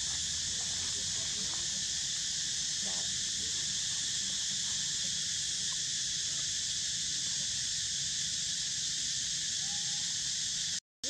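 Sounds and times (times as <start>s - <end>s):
high-pitched forest insects droning: 0.0s - 10.8s.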